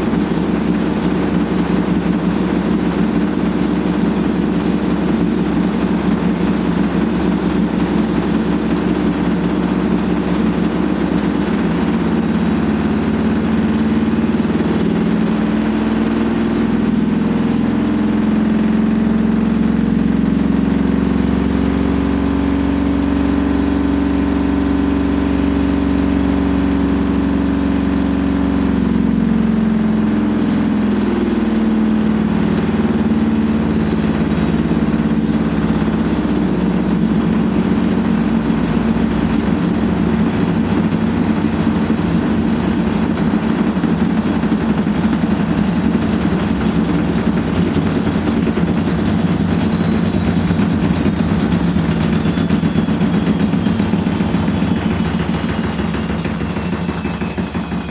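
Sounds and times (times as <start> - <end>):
washing machine spinning drone: 0.0 - 57.9.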